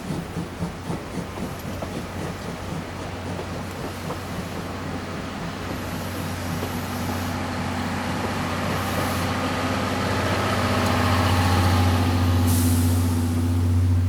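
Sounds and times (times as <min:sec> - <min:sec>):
steam train rumbling: 0:00.0 - 0:14.0.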